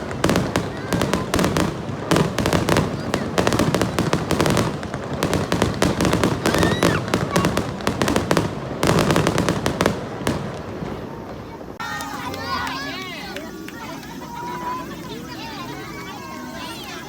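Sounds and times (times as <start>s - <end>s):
fireworks bangs and crackles: 0.0s - 17.0s
onlookers' voices: 0.0s - 17.0s.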